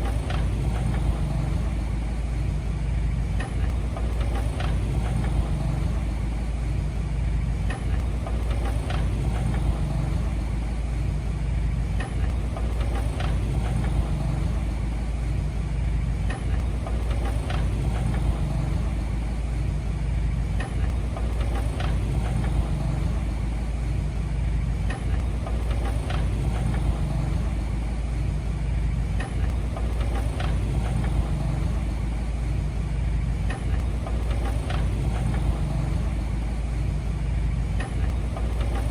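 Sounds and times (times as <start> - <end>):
diesel machine engine running: 0.0 - 38.9.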